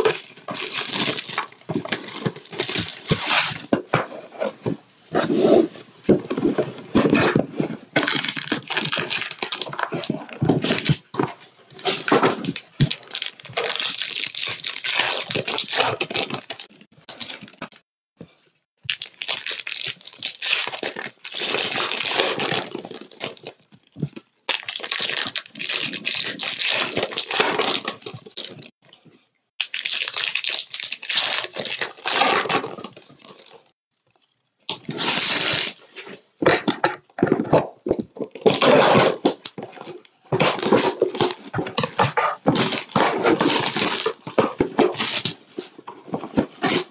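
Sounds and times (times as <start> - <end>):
plastic wrappers tearing and crinkling: 0.0 - 3.7, 6.4 - 11.2, 11.8 - 17.8, 18.9 - 23.6, 24.5 - 28.7, 29.6 - 33.6, 34.7 - 36.0, 38.2 - 46.9.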